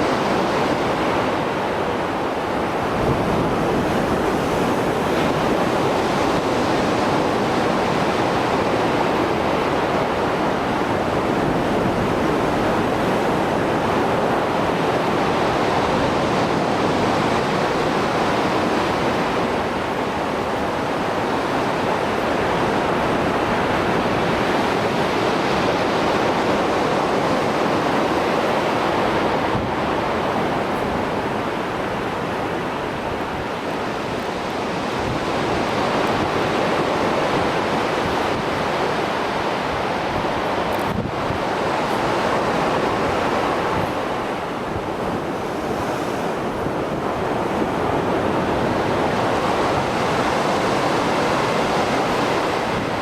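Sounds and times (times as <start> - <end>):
waves breaking and washing ashore: 0.0 - 53.0.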